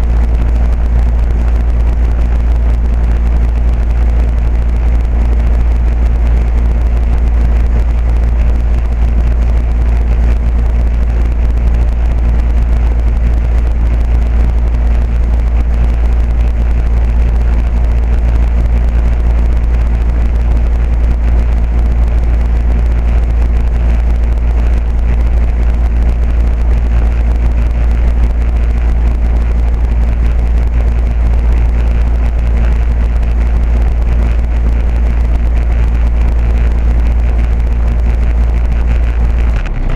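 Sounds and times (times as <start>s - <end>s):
air conditioner unit humming: 0.0s - 39.9s.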